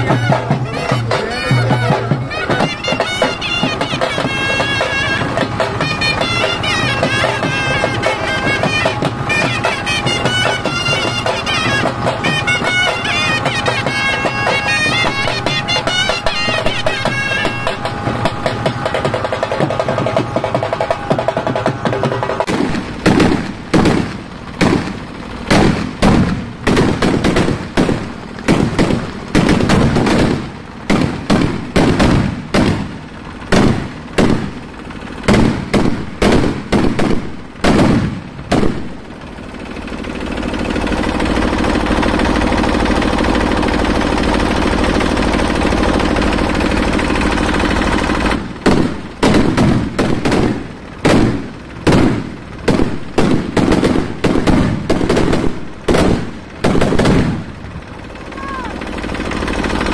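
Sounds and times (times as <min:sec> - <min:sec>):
firecrackers bursting: 0:00.0 - 0:59.9
loud rushing noise: 0:00.0 - 0:59.9.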